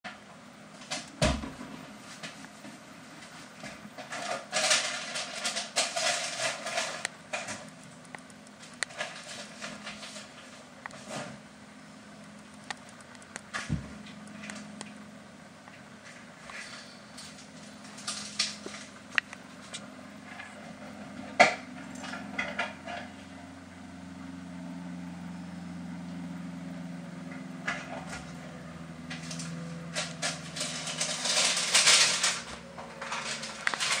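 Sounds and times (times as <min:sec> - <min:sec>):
low steady hum: 0:00.1 - 0:34.0.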